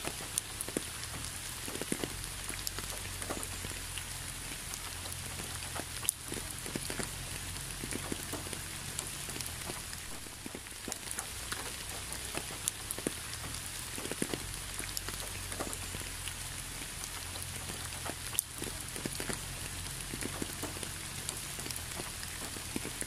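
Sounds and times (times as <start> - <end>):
low steady rumble: 0.0 - 23.0
rain hissing: 0.0 - 23.0
raindrops tapping on surface: 0.0 - 23.0.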